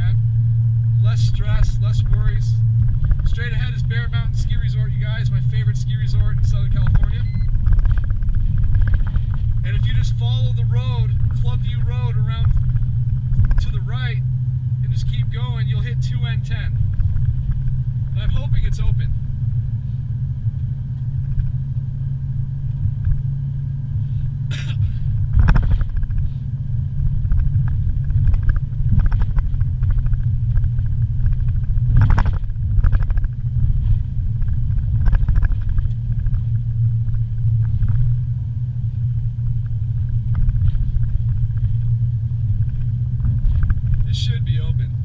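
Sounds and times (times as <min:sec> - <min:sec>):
car engine and road rumble: 0:00.0 - 0:45.0.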